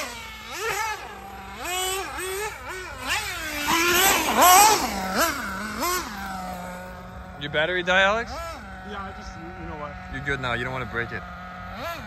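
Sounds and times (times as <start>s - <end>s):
toy buggy motor whining: 0.0s - 12.0s.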